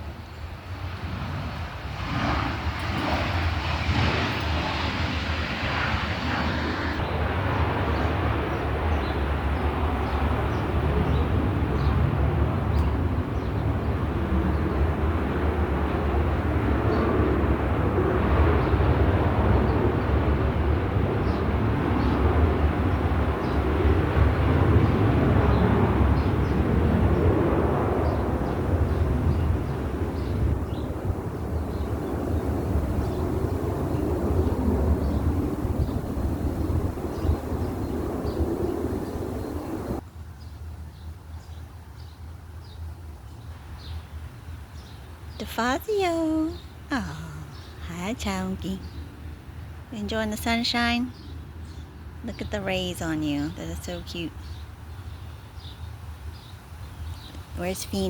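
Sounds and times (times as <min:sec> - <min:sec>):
aircraft engines roaring: 0:00.0 - 0:40.2, 0:43.1 - 0:58.0.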